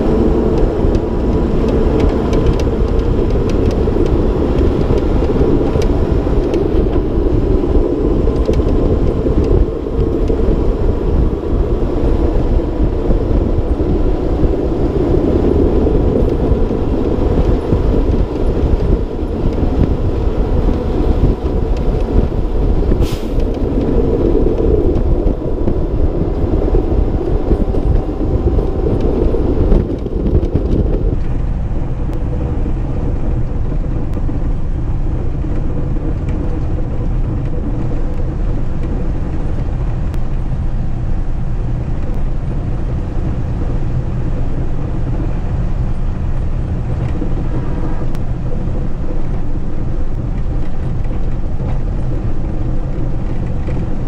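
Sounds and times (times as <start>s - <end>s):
truck engine rumble: 0.0s - 54.0s
wind: 0.0s - 54.0s.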